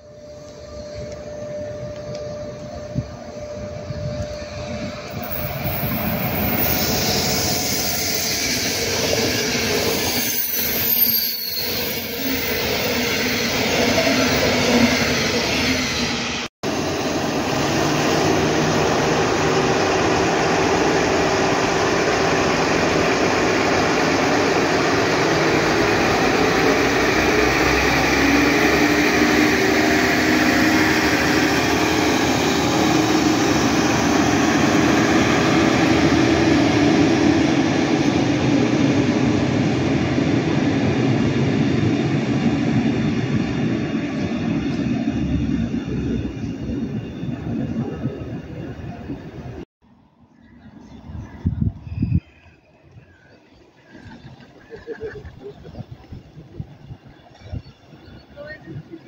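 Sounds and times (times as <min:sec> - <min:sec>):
diesel train engines running: 0:00.0 - 0:49.6
train passing at speed: 0:00.0 - 0:59.0.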